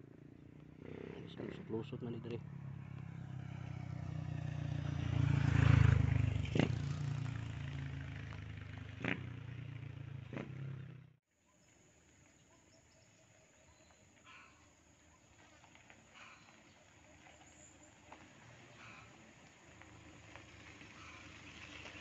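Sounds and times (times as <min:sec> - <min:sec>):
motor vehicle passing: 0:00.0 - 0:11.2, 0:14.2 - 0:22.0
faint outdoor background: 0:00.0 - 0:22.0.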